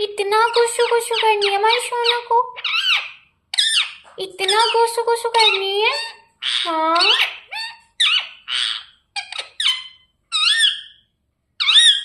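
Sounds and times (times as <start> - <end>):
parrot squawking and chirping: 0.3 - 12.0.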